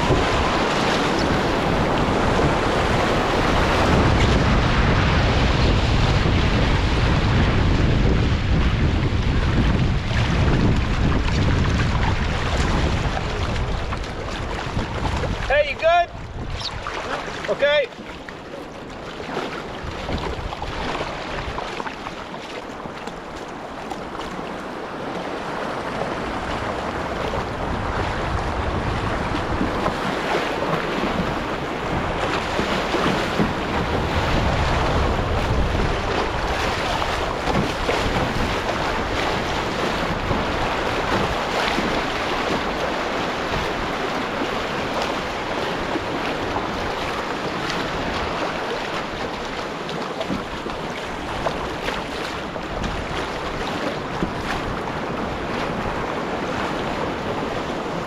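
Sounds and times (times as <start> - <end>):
wind buffeting microphone: 0.0 - 22.1, 22.8 - 58.0
rushing river water: 0.0 - 58.0.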